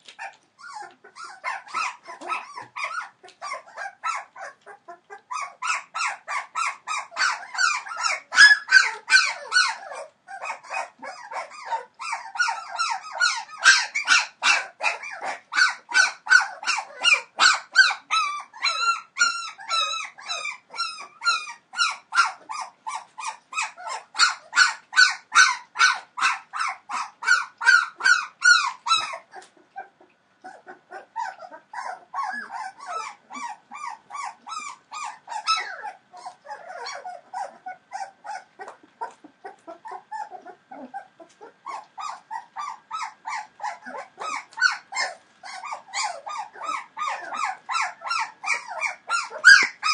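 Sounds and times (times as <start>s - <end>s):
puppies yelping and whining: 0.0s - 49.9s.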